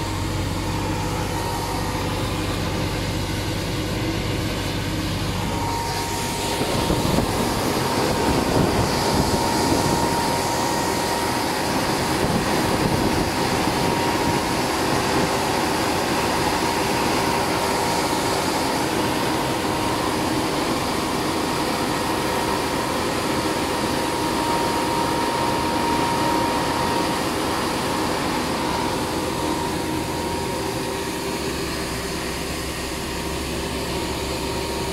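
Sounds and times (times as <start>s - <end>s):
thin steady whine: 0.0s - 34.9s
truck engine and tyre drone: 0.0s - 34.9s.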